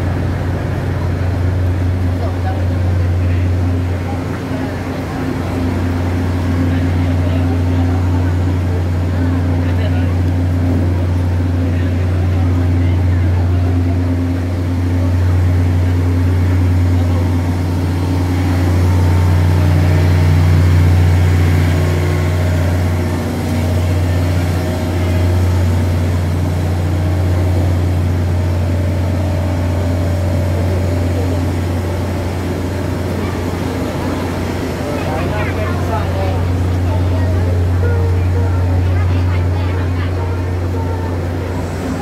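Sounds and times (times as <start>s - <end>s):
diesel engines idling: 0.0s - 42.0s.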